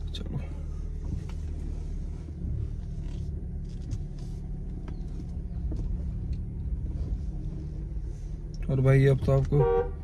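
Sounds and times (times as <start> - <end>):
car engine rumble: 0.0 - 10.0.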